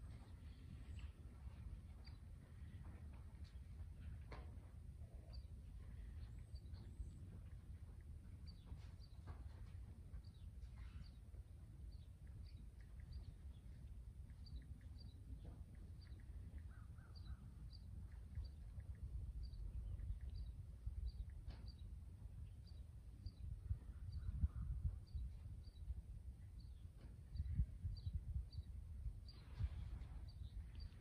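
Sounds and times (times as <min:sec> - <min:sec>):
bird chirping faintly: 0:00.0 - 0:04.4, 0:05.0 - 0:31.0.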